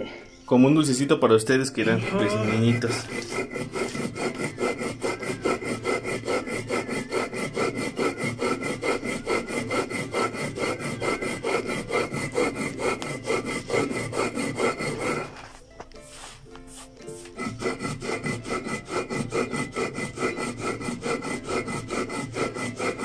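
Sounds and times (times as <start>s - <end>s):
stone grinding on stone: 1.8s - 23.0s.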